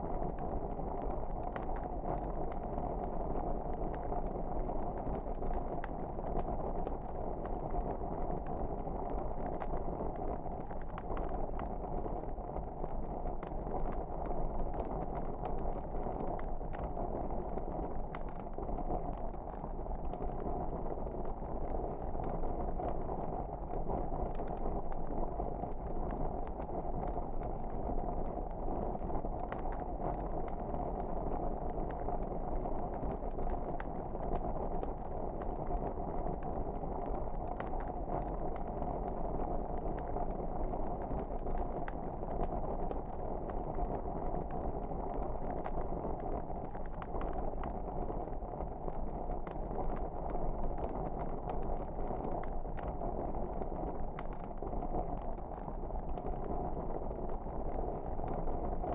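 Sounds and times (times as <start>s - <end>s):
wood fire burning: 0.0s - 58.9s.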